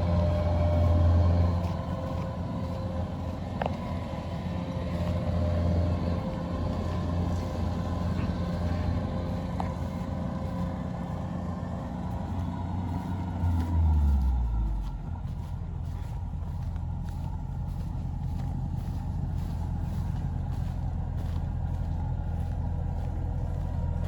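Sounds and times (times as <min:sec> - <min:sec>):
combine harvester diesel drone: 0:00.0 - 0:24.0.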